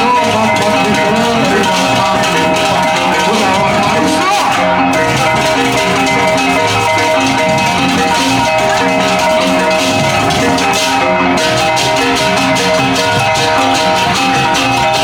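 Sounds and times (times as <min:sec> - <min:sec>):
cymbals and drums clattering: 0:00.0 - 0:15.0
gongs ringing: 0:00.0 - 0:15.0.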